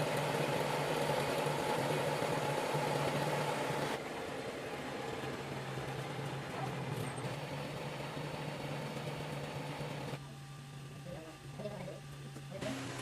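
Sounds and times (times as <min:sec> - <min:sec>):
machine hum with hiss: 0:00.0 - 0:13.0.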